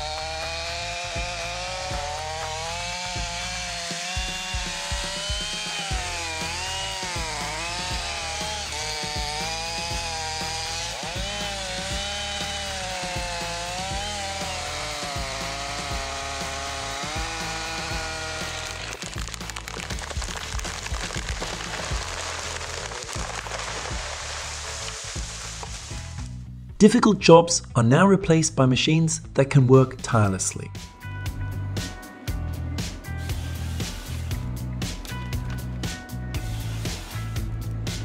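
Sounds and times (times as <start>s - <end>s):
chainsaw cutting wood: 0.0s - 26.4s, 32.8s - 38.0s
background music: 0.0s - 38.0s.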